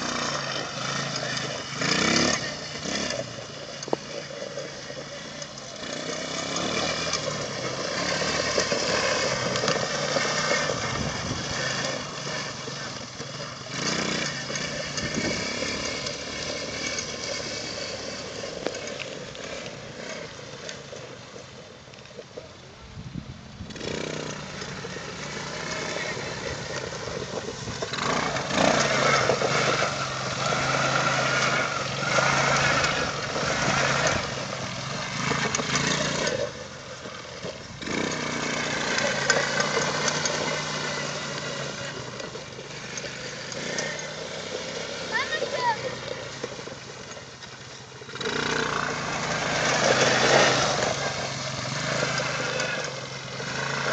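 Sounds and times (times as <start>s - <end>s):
small atv engine revving: 0.0s - 53.9s.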